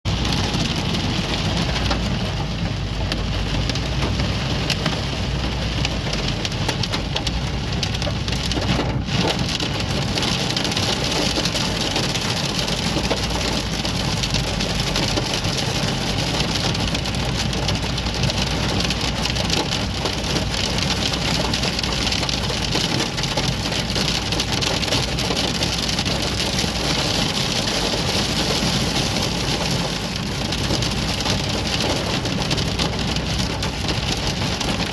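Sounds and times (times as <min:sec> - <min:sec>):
car rumbling on road: 0:00.0 - 0:34.9
rain and hail on a car: 0:00.0 - 0:34.9.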